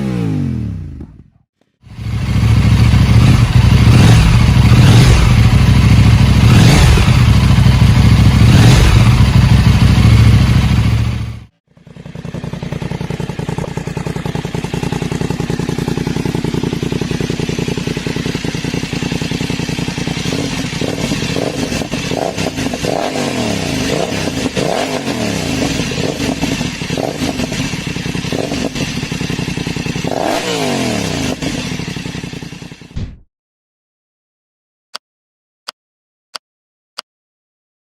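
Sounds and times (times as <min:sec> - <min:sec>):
motorcycle engine accelerating: 0:00.0 - 0:33.2.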